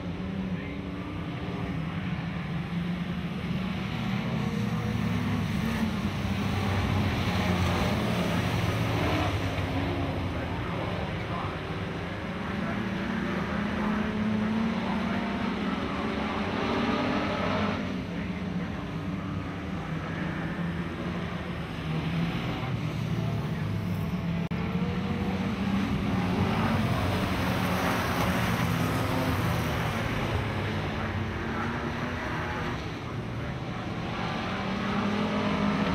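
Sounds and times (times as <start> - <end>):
race car engines: 0.0 - 35.9.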